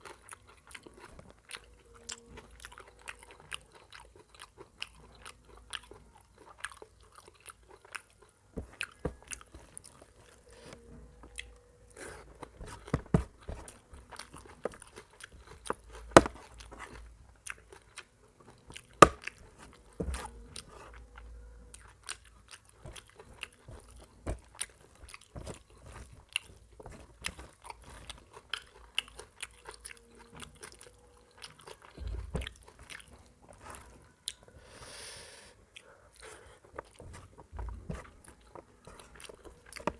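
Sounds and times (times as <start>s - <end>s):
person chewing: 0.0s - 39.9s.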